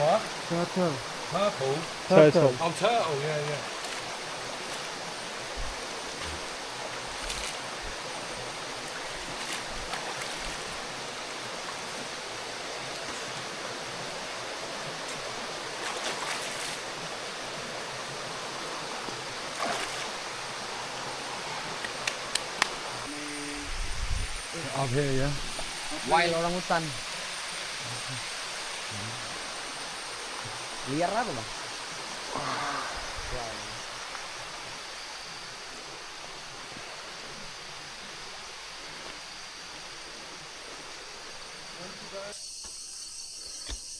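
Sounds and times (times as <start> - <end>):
water rushing: 0.0 - 42.6.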